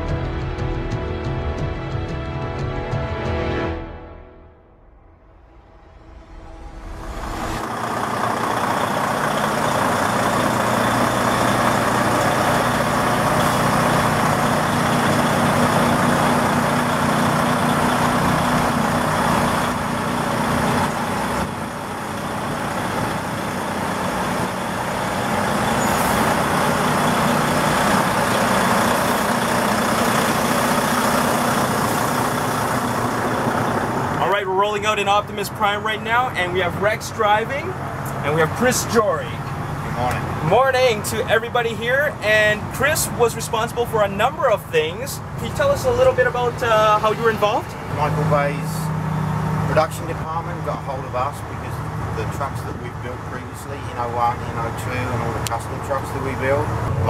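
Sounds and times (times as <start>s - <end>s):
truck diesel engine running: 6.7s - 57.0s.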